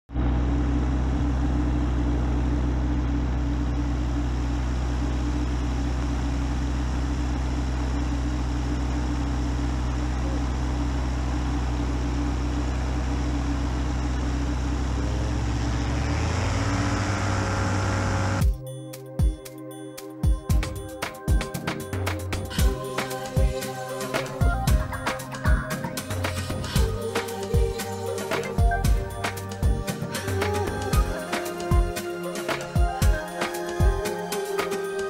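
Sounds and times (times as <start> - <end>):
aircraft engine and propeller: 0.2 - 18.5, 20.6 - 35.0.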